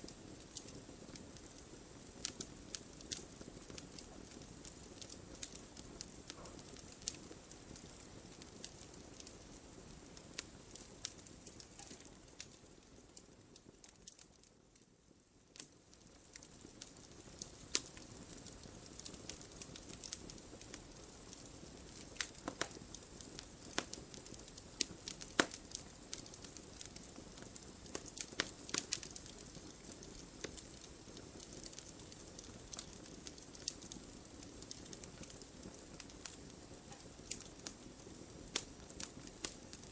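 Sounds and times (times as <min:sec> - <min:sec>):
soft steady hiss: 0:00.0 - 0:39.9
wood fire crackling and popping: 0:00.0 - 0:39.9.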